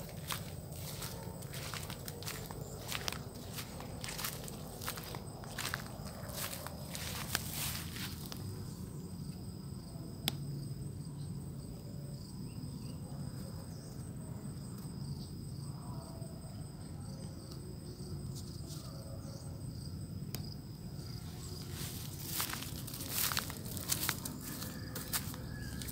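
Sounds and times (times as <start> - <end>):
insects singing high-pitched drone: 0.0 - 25.9.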